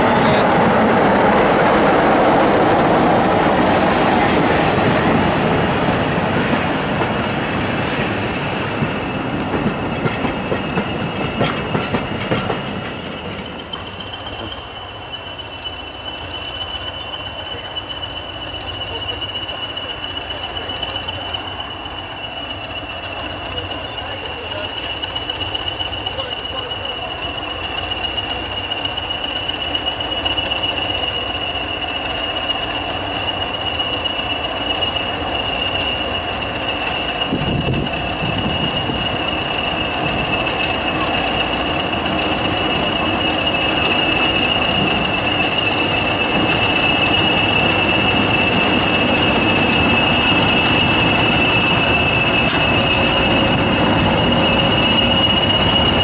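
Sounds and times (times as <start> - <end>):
diesel locomotive engines: 0.0 - 56.0
steady high-pitched whistle: 0.0 - 56.0.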